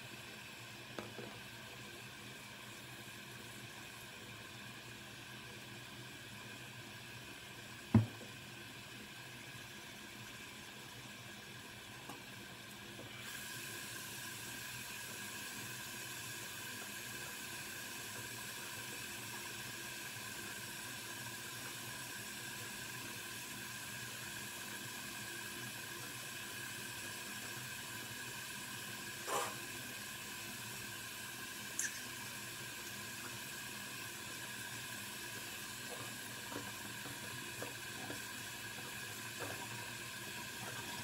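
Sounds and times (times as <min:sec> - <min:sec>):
water running from tap: 0:00.0 - 0:41.0.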